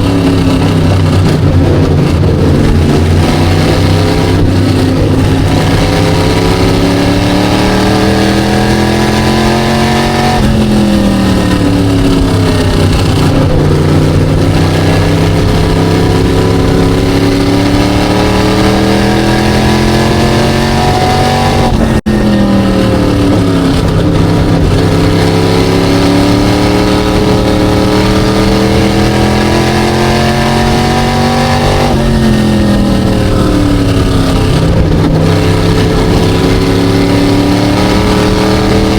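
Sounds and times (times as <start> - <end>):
race car engine: 0.0 - 38.9.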